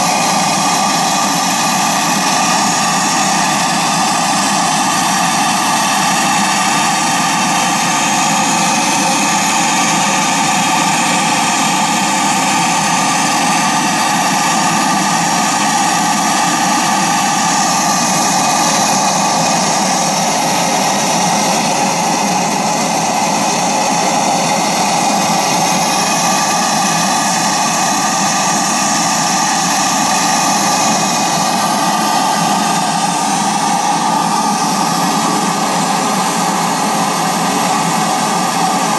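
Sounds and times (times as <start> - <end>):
model steam engine hissing: 0.0 - 38.9.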